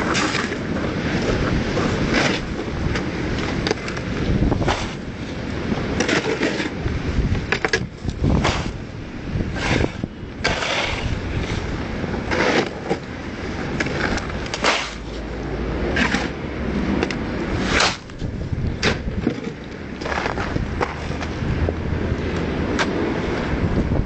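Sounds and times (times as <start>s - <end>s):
scrapes and knocks on concrete: 0.0s - 8.8s, 9.5s - 15.3s, 15.9s - 23.5s
rough background noise: 0.0s - 24.0s.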